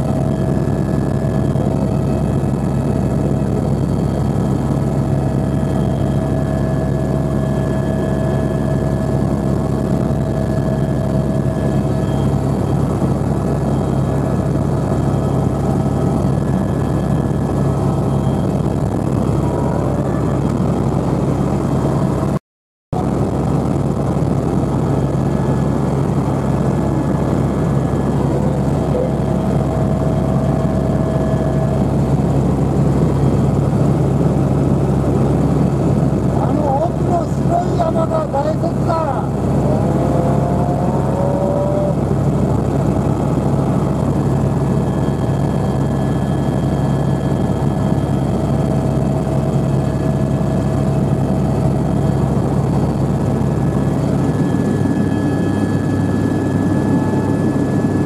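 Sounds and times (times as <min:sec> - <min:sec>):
faint steady whines: 0:00.0 - 0:22.4, 0:23.0 - 0:58.0
helicopter engine and rotor drone: 0:00.0 - 0:22.4, 0:23.0 - 0:58.0.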